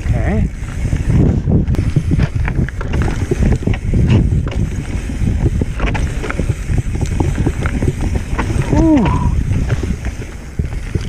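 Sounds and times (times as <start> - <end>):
bike rattles and knocks: 0.0 - 11.0
bike tyres crunching over stones: 0.0 - 11.0
wind buffeting microphone: 0.0 - 11.0.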